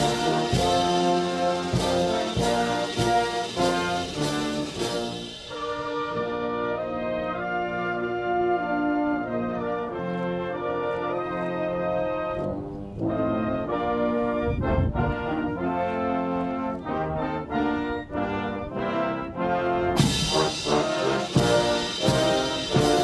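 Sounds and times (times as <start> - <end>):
brass military band: 0.0 - 23.0.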